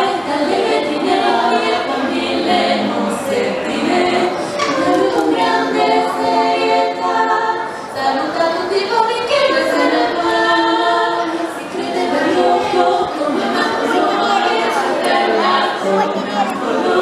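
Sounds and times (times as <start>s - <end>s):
young female voices singing: 0.0s - 17.0s.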